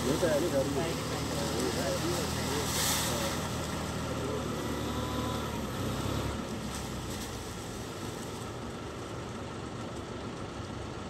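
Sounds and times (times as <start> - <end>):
tractor engine droning: 0.0 - 11.0.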